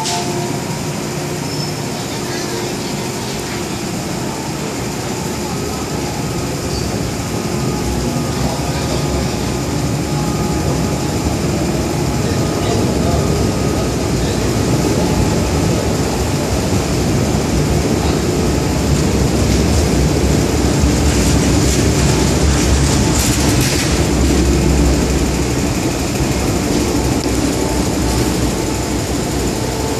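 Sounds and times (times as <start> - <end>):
metro train rumbling past: 0.0 - 29.9.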